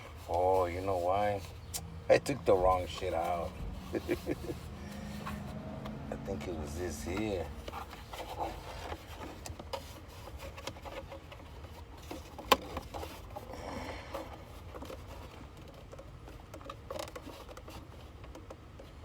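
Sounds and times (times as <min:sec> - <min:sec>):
steady low hum: 0:00.0 - 0:16.5
plastic trim rubbing and scraping: 0:00.0 - 0:19.0.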